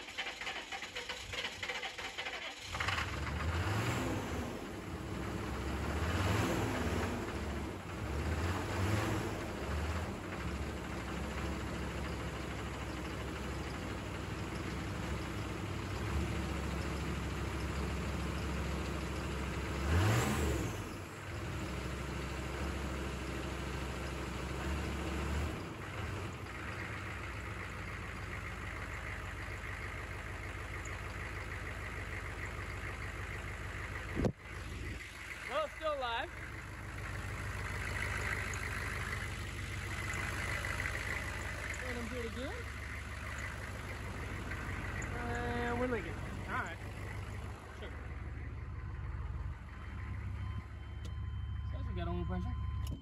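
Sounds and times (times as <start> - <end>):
diesel engine idling: 0.0 - 53.0
engine revving: 0.0 - 53.0.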